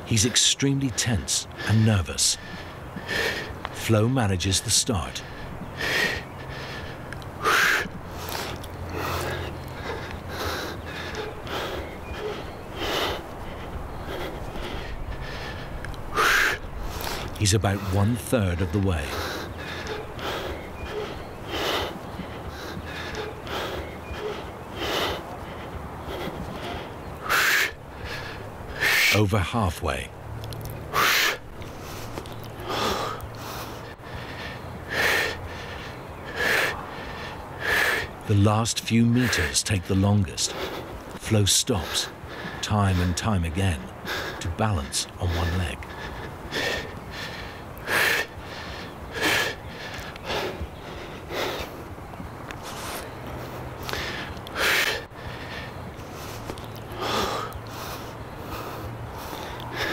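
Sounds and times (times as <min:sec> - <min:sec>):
man breathing hard: 0:00.0 - 0:29.5, 0:30.8 - 0:59.9.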